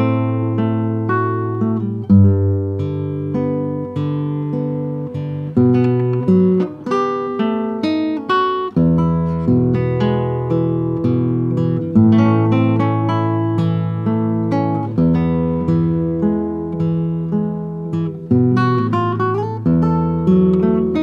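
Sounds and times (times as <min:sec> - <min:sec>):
fingerstyle classical guitar: 0:00.0 - 0:21.0.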